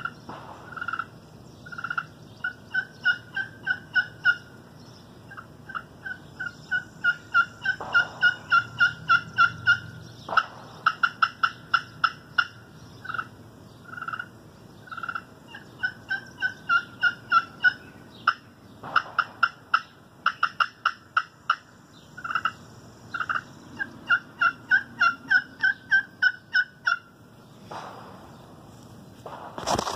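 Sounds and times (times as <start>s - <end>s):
turkey pot call notes: 0.0s - 27.4s.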